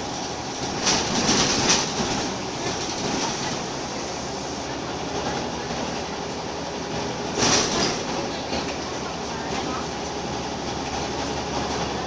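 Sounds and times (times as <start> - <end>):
bus body rattling: 0.0 - 12.0
bus engine and road noise: 0.0 - 12.0.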